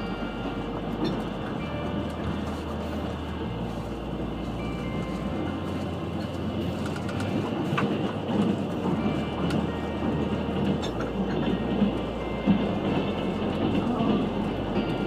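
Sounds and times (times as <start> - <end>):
train wheels running on rails: 0.0 - 15.0.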